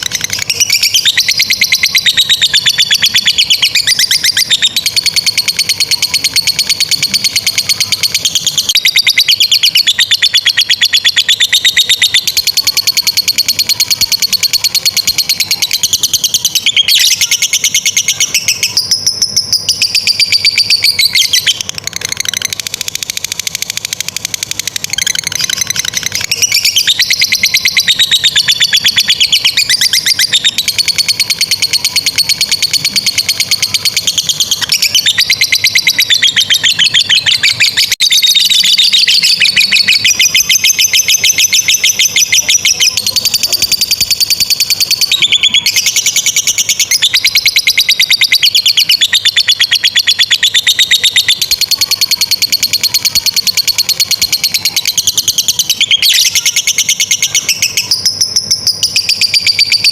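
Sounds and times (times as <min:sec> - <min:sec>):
lovebirds chattering: 0:00.0 - 0:59.9.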